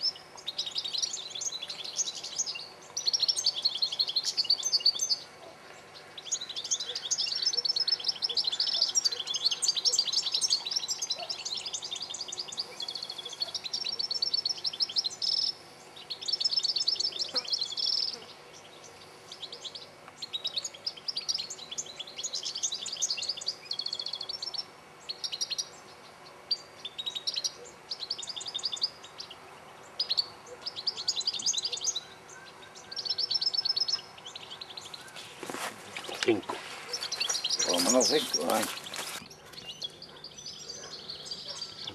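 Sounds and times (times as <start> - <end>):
goldfinches twittering: 0.0 - 41.9.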